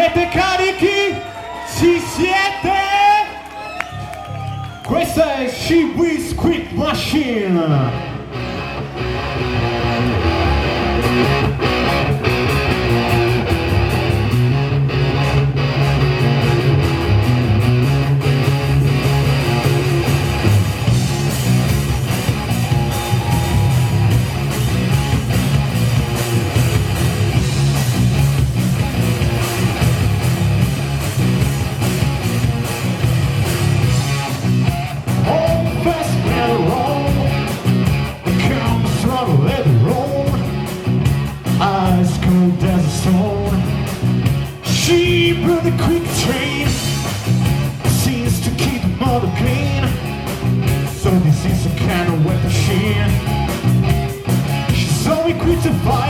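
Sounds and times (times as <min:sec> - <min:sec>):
live hard rock band playing: 0:06.3 - 0:56.0
electric guitar: 0:07.0 - 0:56.0.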